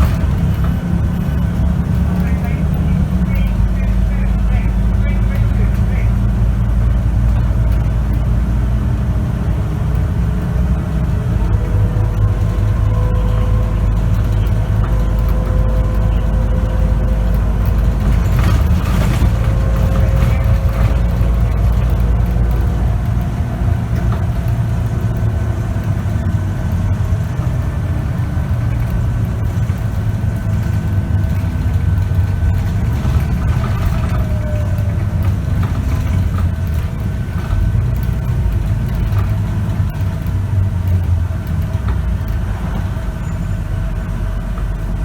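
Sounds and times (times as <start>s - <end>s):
bus engine drone: 0.0s - 45.0s
gearbox whine: 0.0s - 45.0s.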